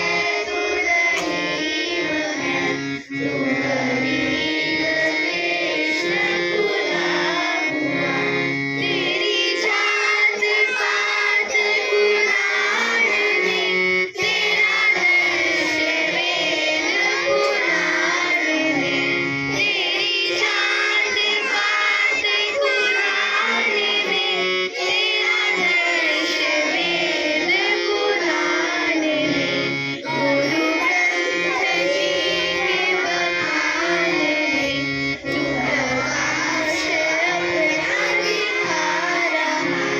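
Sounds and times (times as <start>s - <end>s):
children singing: 0.0s - 39.9s.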